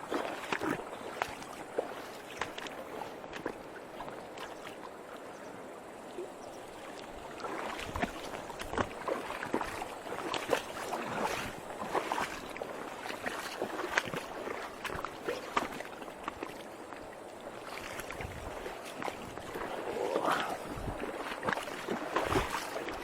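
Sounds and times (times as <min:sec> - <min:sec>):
water splashing close by: 0:00.0 - 0:05.4, 0:06.1 - 0:23.0
river water rushing: 0:00.0 - 0:23.0.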